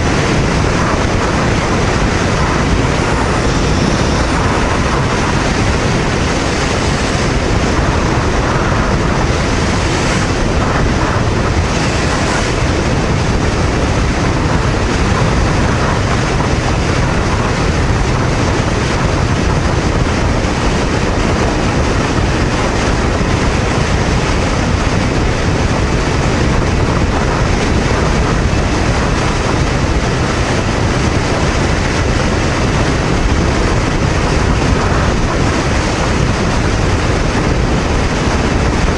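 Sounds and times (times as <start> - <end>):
motorcycle engine: 0.0 - 38.9
tyre and road noise: 0.0 - 38.9
wind rushing on microphone: 0.0 - 38.9.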